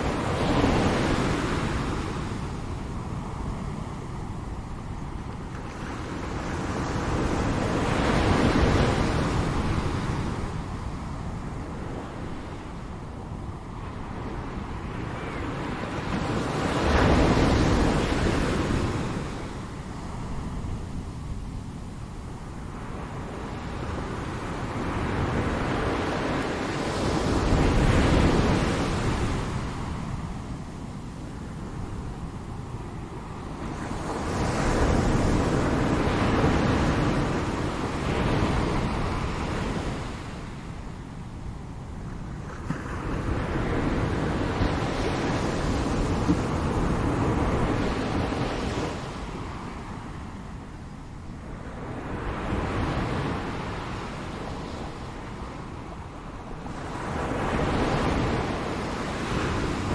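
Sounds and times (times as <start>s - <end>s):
ocean surf: 0.0s - 59.9s.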